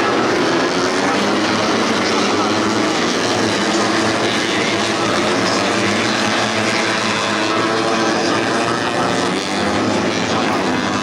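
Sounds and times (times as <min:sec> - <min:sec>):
motorcycle engines at high revs: 0:00.0 - 0:11.0.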